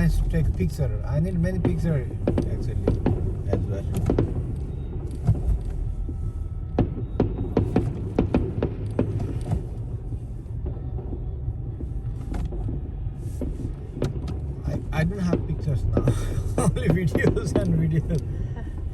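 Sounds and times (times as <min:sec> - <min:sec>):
car road rumble inside cabin: 0:00.0 - 0:18.9
fireworks popping and banging: 0:00.0 - 0:18.9.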